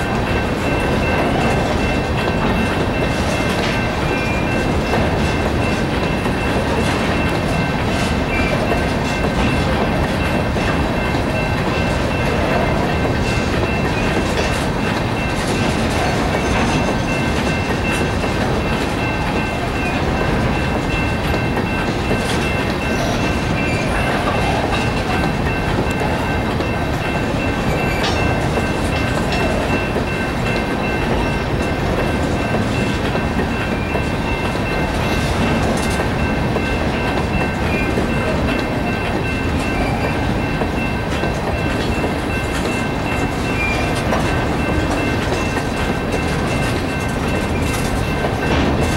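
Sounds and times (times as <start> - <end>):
crossing bell ringing: 0.0 - 48.9
freight train wheels rumbling on rails: 0.0 - 48.9.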